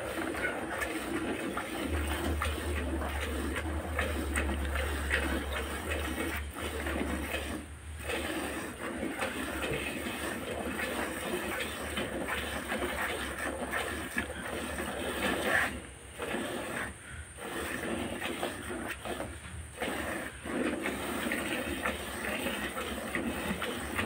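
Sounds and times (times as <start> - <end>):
milk squirting into bucket: 0.0 - 24.0.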